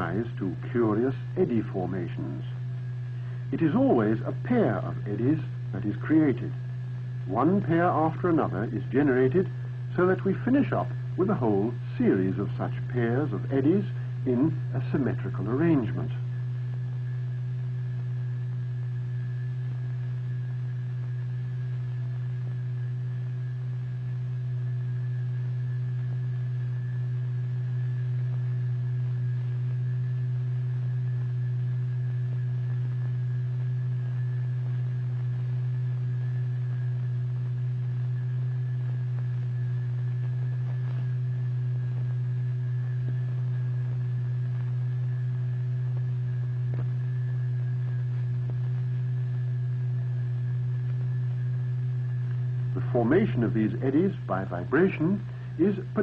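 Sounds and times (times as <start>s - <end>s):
steady low electronic tone: 0.0s - 56.0s.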